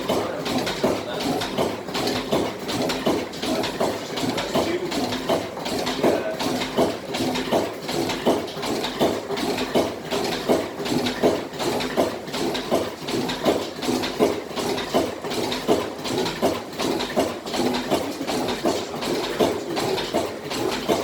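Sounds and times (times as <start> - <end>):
oil engine slow beat: 0.0 - 21.0.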